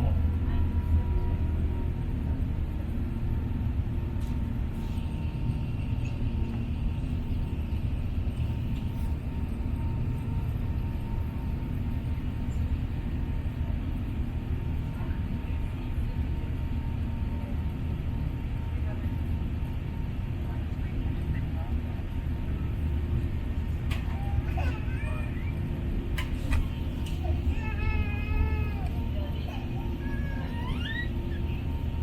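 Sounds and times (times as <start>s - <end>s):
airliner cabin low rumble: 0.0s - 32.0s.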